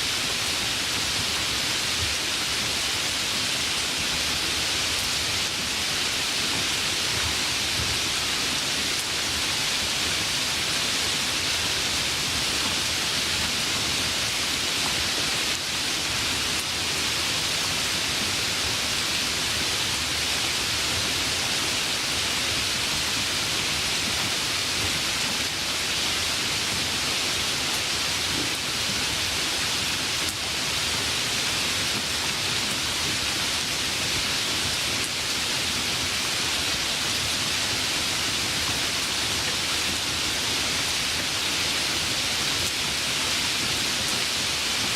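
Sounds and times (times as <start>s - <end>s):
light rain hiss: 0.0s - 44.9s.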